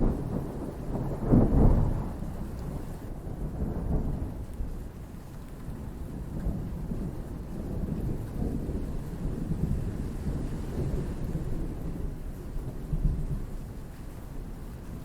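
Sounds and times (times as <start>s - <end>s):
rolling thunder: 0.0s - 4.5s, 6.1s - 13.8s
steady rain: 0.0s - 15.0s.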